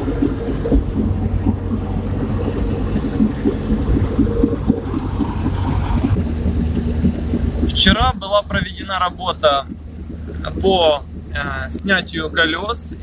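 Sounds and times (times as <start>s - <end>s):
car engine and road noise: 0.0s - 13.0s
light rhythmic knocking: 0.0s - 13.0s.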